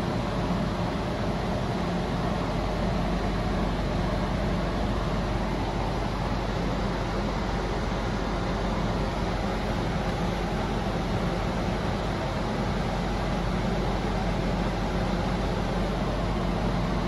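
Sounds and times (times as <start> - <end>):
car cabin engine hum and hiss: 0.0 - 17.0.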